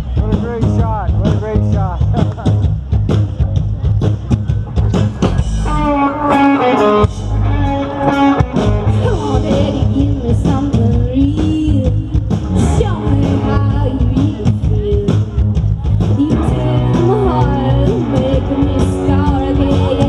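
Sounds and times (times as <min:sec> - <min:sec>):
rock band playing loud: 0:00.0 - 0:20.0.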